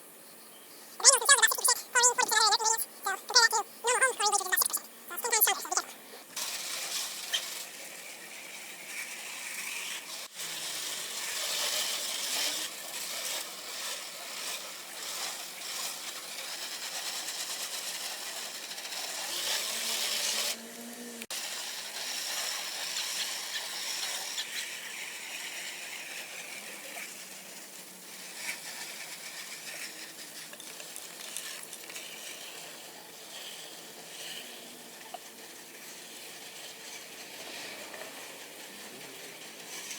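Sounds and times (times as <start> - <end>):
hose sprayer hissing: 0.9 - 39.9.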